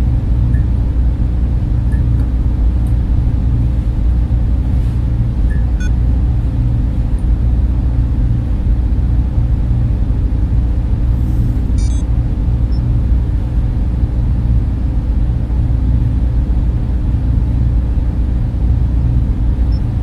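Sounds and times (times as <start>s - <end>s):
cooling fans humming: 0.0s - 20.0s.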